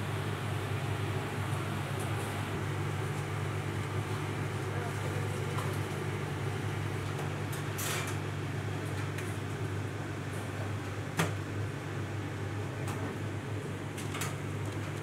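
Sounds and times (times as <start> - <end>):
kitchen hum and hiss: 0.0 - 15.0.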